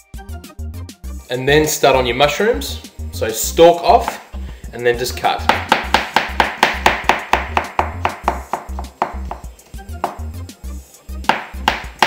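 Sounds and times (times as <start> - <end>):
background music with bass line: 0.0 - 12.0.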